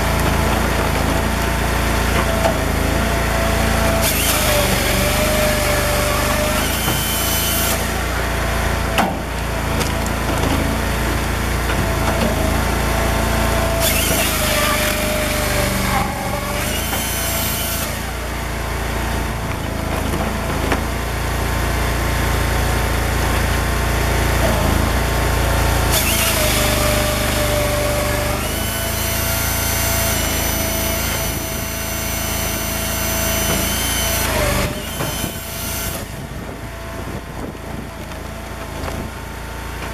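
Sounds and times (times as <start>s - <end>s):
chainsaw bar cutting logs: 0.0s - 39.9s
engine and hydraulics whining: 0.0s - 39.9s.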